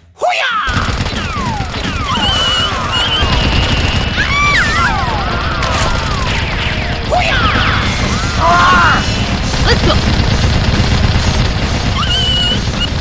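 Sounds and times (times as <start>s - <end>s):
rapid gunfire: 0.7s - 13.0s.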